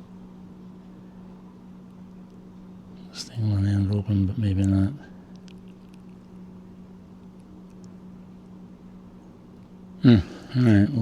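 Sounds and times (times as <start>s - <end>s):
faint low hum: 0.0s - 11.0s
soft background hiss: 0.0s - 11.0s.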